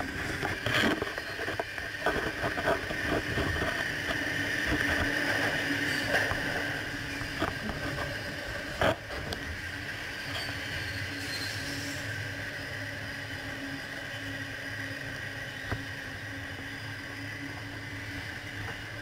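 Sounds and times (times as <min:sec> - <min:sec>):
electric train running: 0:00.0 - 0:19.0
high whine: 0:00.0 - 0:19.0
wheel on rail rush: 0:00.0 - 0:19.0.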